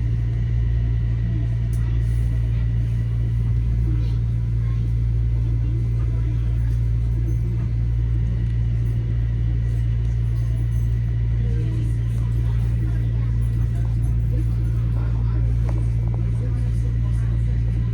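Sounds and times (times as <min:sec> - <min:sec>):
faint voices: 0:00.0 - 0:17.9
train rumble and hum: 0:00.0 - 0:17.9.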